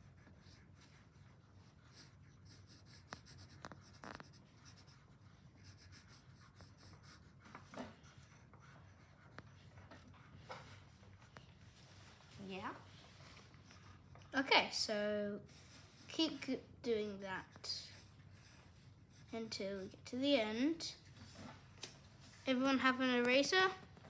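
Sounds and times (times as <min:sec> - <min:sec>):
pencil scratching on paper: 0:00.0 - 0:21.6.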